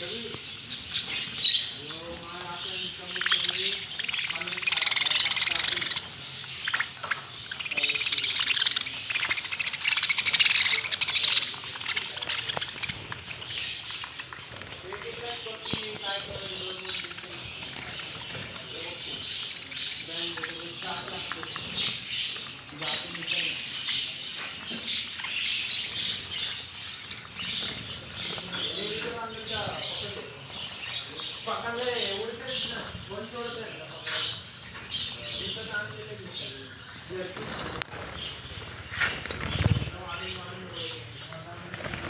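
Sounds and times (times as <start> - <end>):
budgerigars chattering: 0.0 - 42.0.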